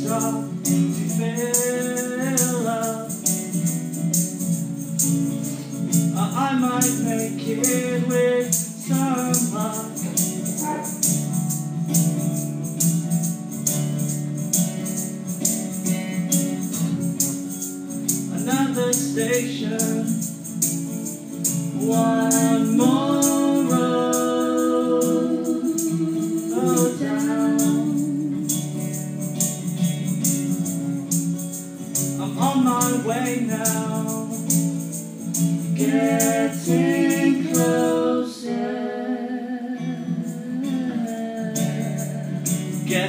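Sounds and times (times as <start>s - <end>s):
tambourine shaken in a beat: 0.0s - 38.5s, 40.1s - 43.0s
acoustic guitar accompaniment: 0.0s - 43.0s.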